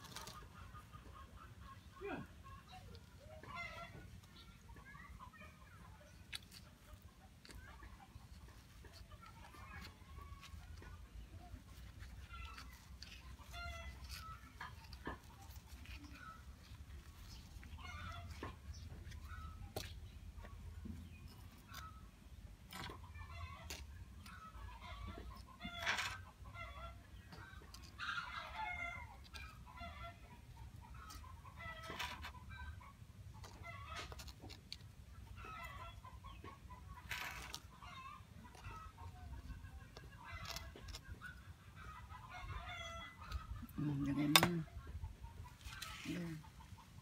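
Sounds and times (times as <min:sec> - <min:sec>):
chicken clucking: 0:00.0 - 0:47.0.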